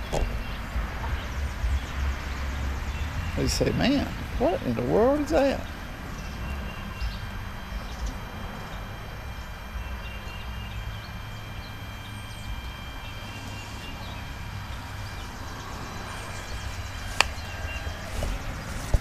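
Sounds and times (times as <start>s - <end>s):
steady low rumble: 0.0s - 19.0s
faint high chirps: 0.3s - 18.8s.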